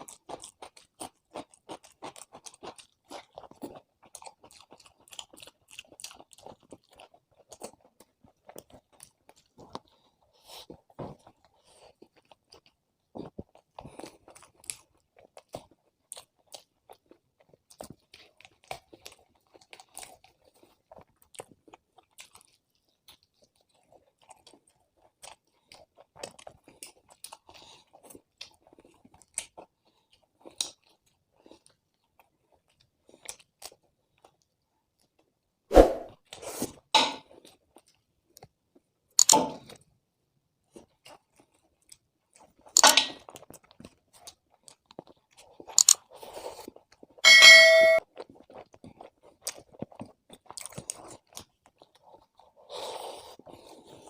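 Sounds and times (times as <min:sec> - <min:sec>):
person chewing crunchy food: 0:00.0 - 0:40.0, 0:40.6 - 0:47.3, 0:48.0 - 0:54.0.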